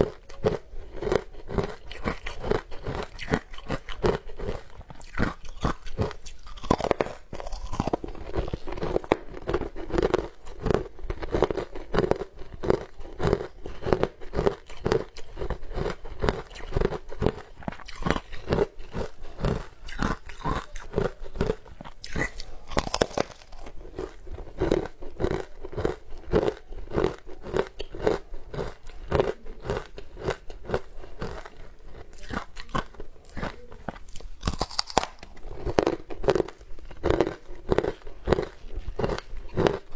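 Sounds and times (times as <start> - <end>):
crunching and chewing sweet: 0.0 - 39.9.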